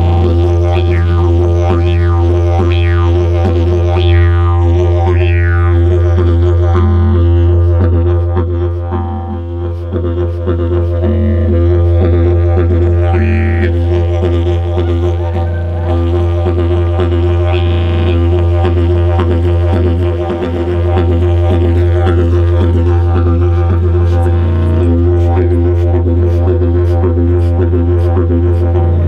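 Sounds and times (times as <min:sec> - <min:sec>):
didgeridoo drone: 0:00.0 - 0:29.0.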